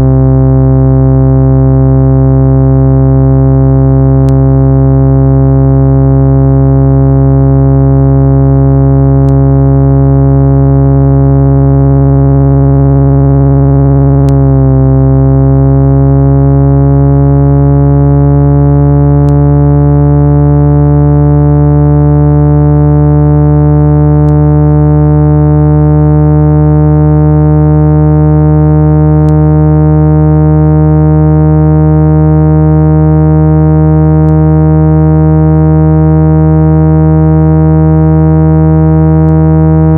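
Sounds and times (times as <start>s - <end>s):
buzzy electronic tone: 0.0s - 39.9s.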